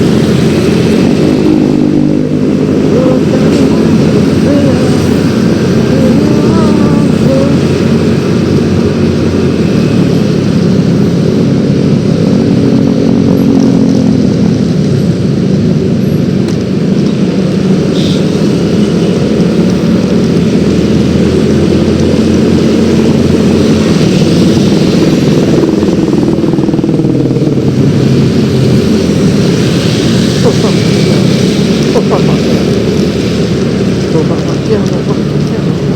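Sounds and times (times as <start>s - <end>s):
scooter engine running: 0.0s - 15.1s, 18.6s - 35.9s
road and wind noise: 0.0s - 35.9s.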